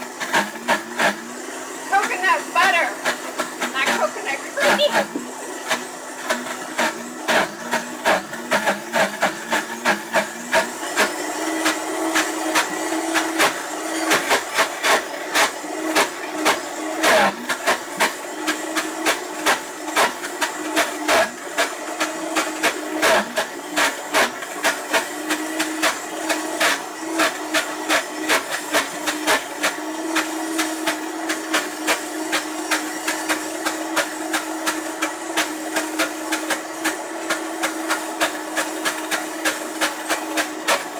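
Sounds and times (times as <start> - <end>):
blender motor hum: 0.0 - 40.9.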